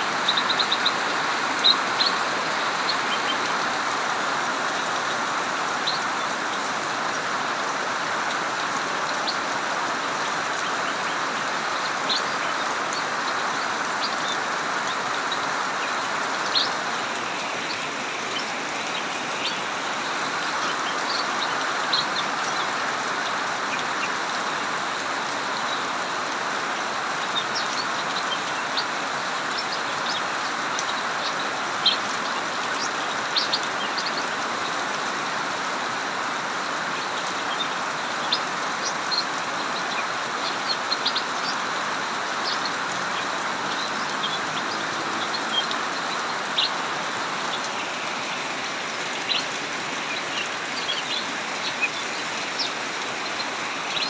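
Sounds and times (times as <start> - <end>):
songbirds high chirps: 0.0 - 7.2, 8.6 - 54.0
heavy rain pouring: 0.0 - 54.0.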